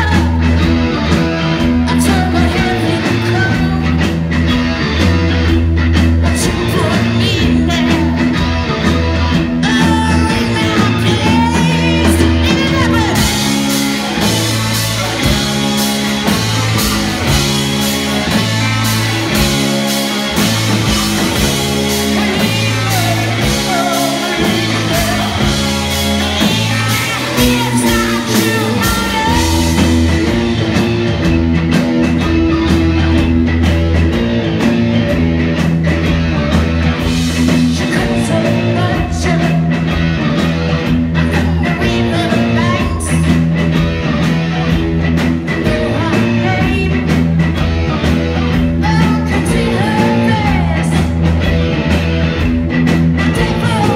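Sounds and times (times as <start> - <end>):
rock band playing loudly: 0.0 - 53.9.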